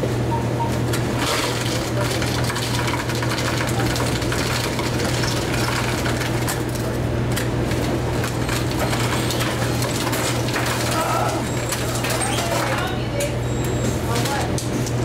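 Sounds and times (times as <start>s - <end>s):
soda fountain dispensing: 0.3s - 14.6s.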